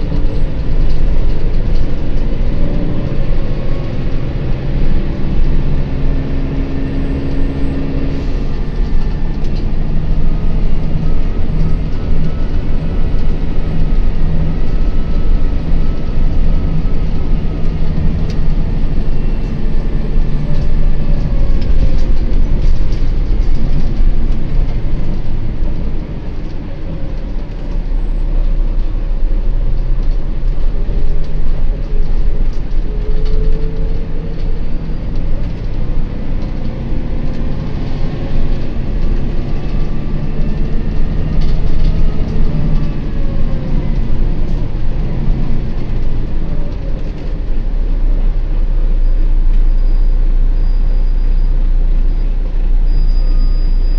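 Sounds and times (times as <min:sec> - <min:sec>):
diesel bus engine drone: 0:00.0 - 0:53.9
road noise: 0:00.0 - 0:53.9.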